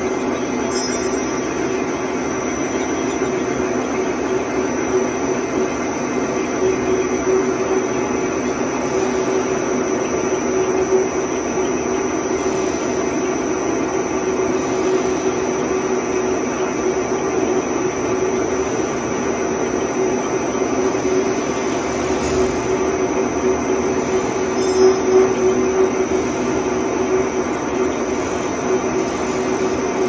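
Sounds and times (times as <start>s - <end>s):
lathe whirring: 0.0s - 30.0s.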